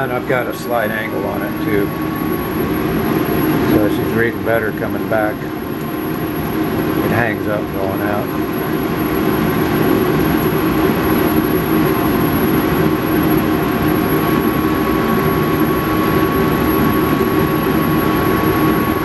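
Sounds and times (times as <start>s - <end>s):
shop machinery drone: 0.0s - 19.0s
thin steady whine: 0.0s - 19.0s.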